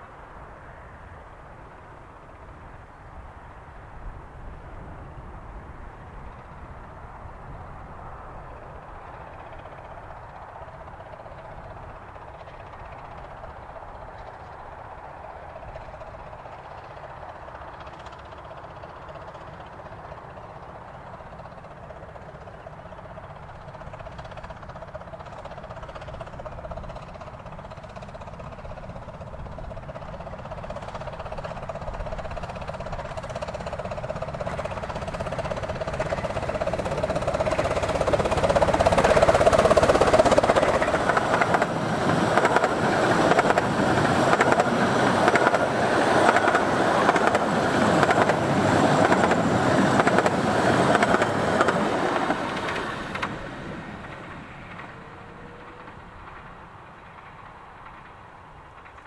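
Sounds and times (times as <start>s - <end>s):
steam locomotive approaching: 0.0s - 59.0s
train rattling on rails: 1.6s - 59.0s.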